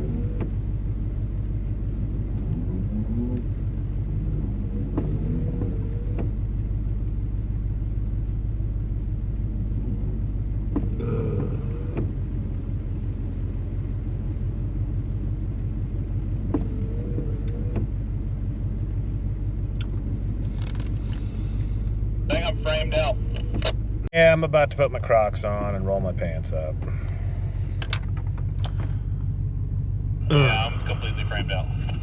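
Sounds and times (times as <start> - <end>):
engine running low rumble: 0.0 - 32.0.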